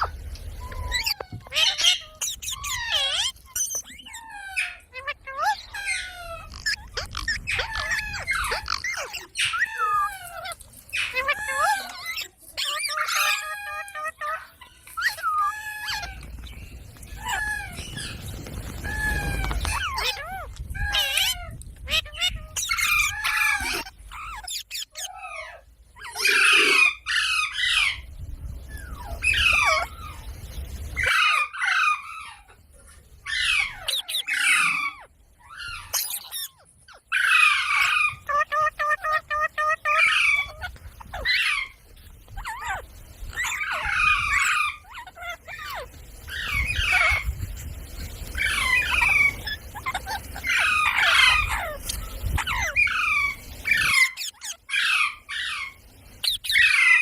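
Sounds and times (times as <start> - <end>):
parakeet squawking and chattering: 0.0 - 57.0.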